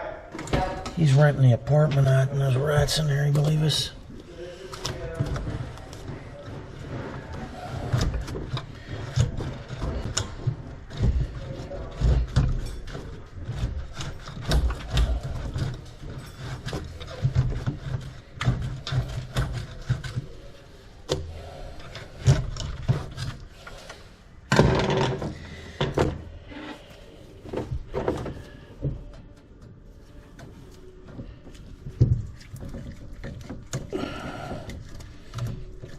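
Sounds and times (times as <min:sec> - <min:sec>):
tools and plastic pipe fittings clattering: 0:00.3 - 0:35.9.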